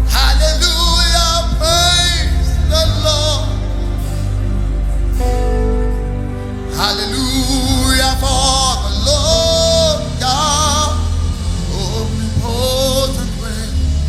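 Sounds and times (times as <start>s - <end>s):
backing chords and bass: 0.0s - 14.0s
person singing gospel: 0.0s - 14.0s.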